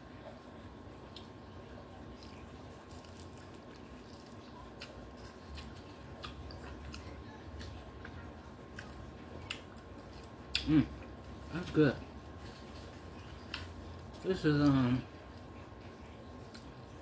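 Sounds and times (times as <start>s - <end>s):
person chewing: 2.1s - 11.7s, 12.4s - 17.0s.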